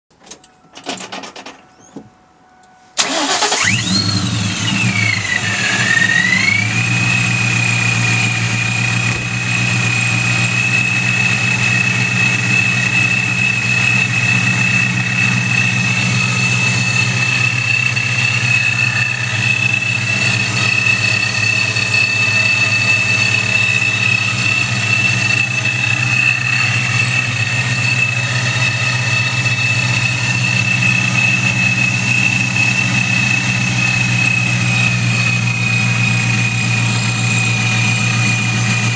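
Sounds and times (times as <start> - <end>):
supercharger whine: 1.7 - 38.9
engine starting and idling: 3.0 - 35.6.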